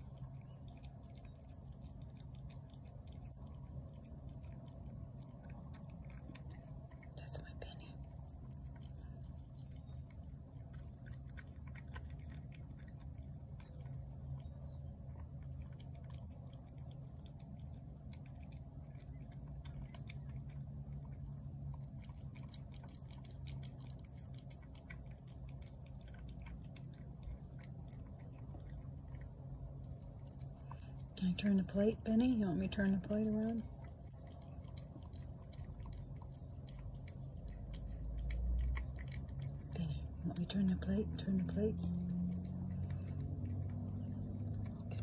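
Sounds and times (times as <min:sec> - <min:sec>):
cat chewing and smacking: 0:00.0 - 0:45.0
low steady hum: 0:00.0 - 0:45.0.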